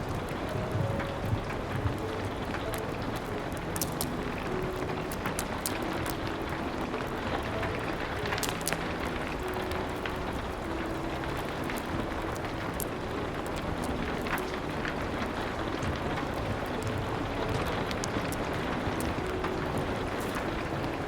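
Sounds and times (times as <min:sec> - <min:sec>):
soft low music notes: 0:00.0 - 0:21.0
steady rain hiss: 0:00.0 - 0:21.0
wood fire crackling and popping: 0:00.0 - 0:21.0.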